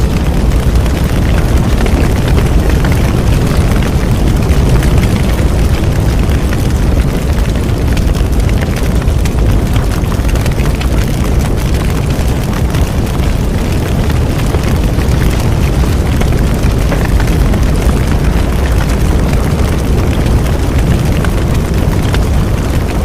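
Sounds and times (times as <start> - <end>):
bonfire burning and crackling: 0.0 - 23.0.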